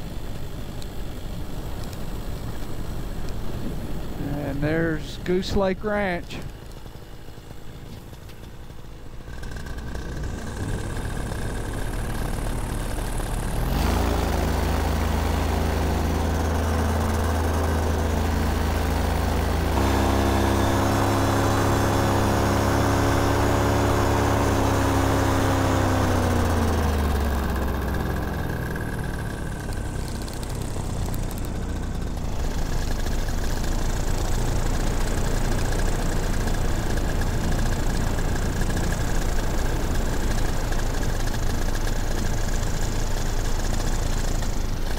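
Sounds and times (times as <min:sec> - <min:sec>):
paramotor engine and propeller: 0:00.0 - 0:44.9.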